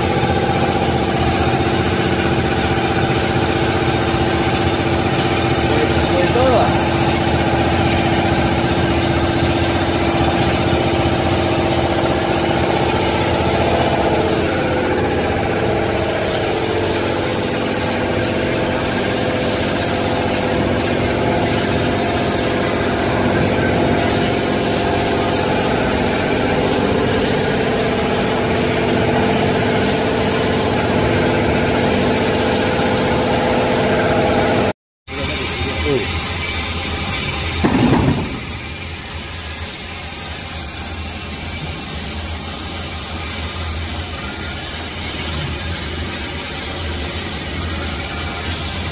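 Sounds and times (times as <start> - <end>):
machine humming: 0.0 - 48.9.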